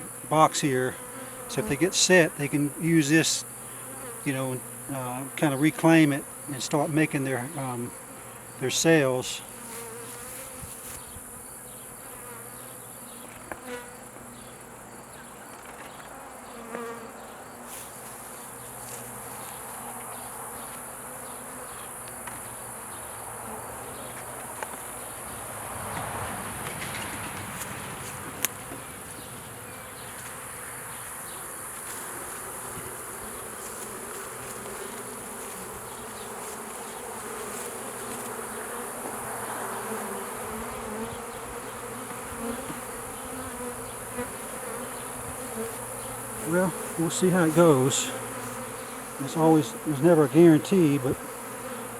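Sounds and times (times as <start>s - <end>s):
bees buzzing: 0.0s - 51.9s.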